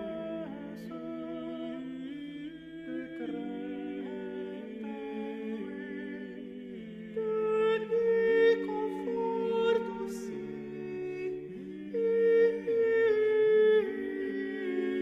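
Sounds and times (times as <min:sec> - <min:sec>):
male vocal ensemble singing: 0:00.0 - 0:15.0.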